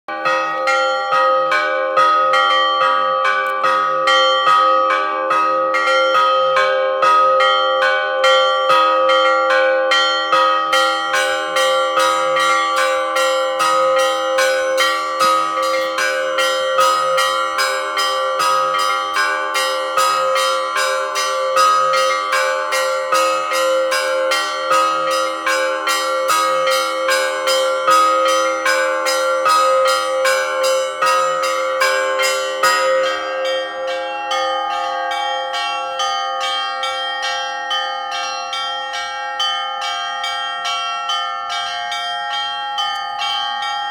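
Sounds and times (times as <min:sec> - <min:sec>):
large bells ringing: 0:00.1 - 0:43.9
small high bells ringing: 0:00.1 - 0:43.9.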